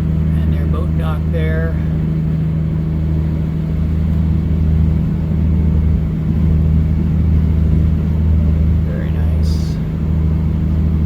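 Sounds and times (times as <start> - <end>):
boat engines droning: 0.0 - 11.0.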